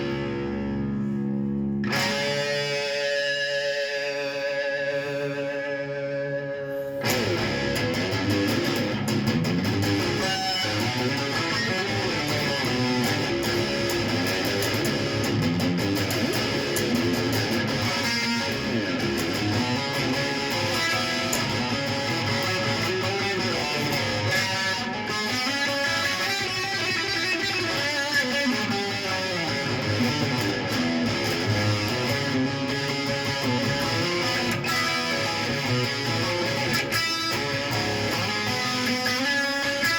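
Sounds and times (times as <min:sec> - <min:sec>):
guitar strumming: 0:00.0 - 0:39.9.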